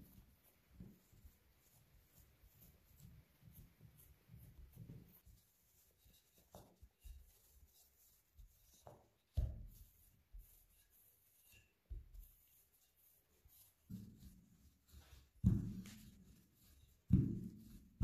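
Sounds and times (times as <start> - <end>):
hands rubbing dough: 0.0 - 18.0
rolling pin rolling dough: 0.0 - 18.0.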